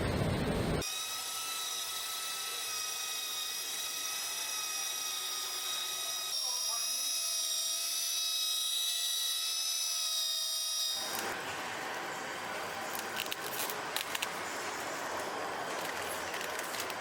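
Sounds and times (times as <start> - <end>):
high-pitched machine whine: 0.0 - 7.6, 10.0 - 17.0.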